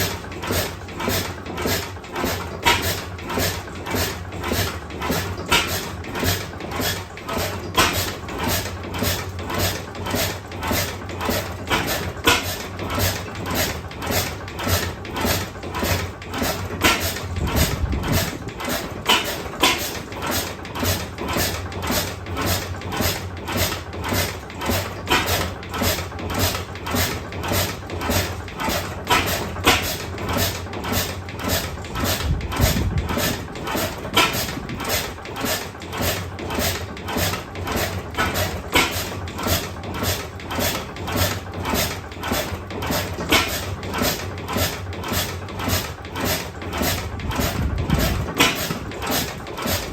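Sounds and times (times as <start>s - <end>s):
old oil engine knocking: 0.0s - 49.9s.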